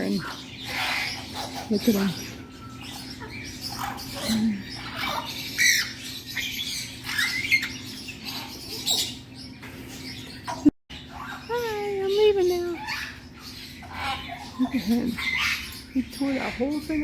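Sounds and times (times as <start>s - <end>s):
parrots squawking and chirping: 0.0s - 17.0s.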